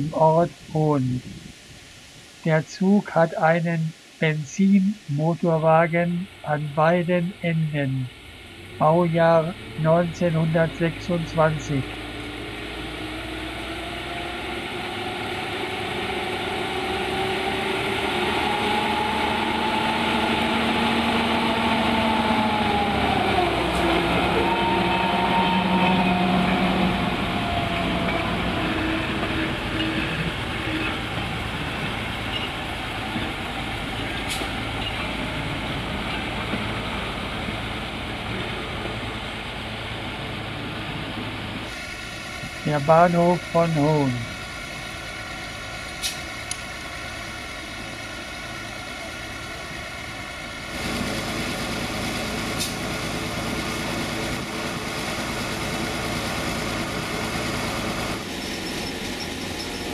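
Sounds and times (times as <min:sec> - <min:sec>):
coaches rumbling on rails: 0:02.4 - 0:59.9
railcar engine passing: 0:08.0 - 0:59.9.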